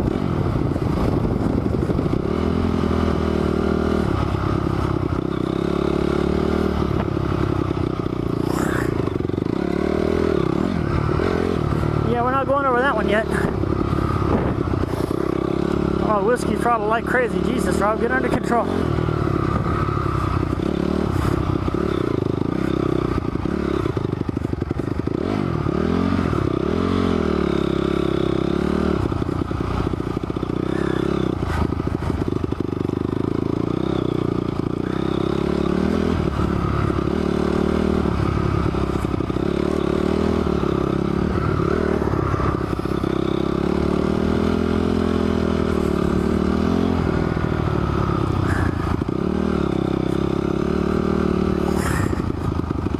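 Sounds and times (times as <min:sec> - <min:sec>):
rattles and scrapes from bike: 0:00.0 - 0:26.6, 0:27.4 - 0:52.9
dirt bike engine revving: 0:00.0 - 0:52.9.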